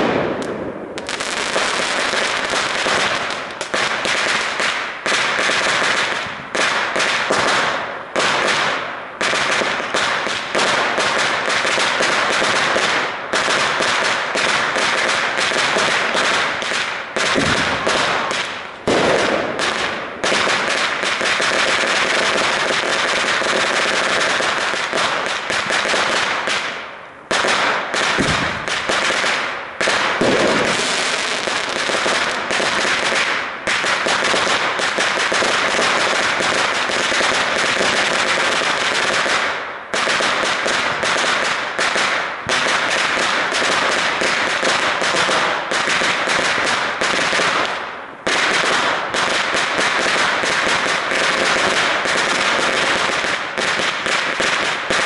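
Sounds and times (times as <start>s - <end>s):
firecrackers banging rapidly: 0.0s - 55.0s.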